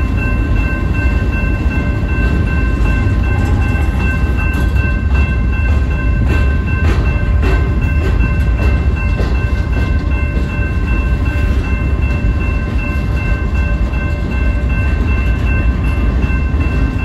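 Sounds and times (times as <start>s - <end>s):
high ringing tones: 0.0s - 17.0s
train wheels rumbling on rail: 0.0s - 17.0s.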